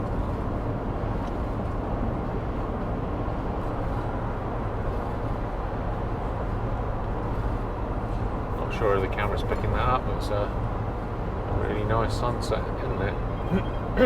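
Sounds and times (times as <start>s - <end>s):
road and engine noise in cab: 0.0s - 14.0s.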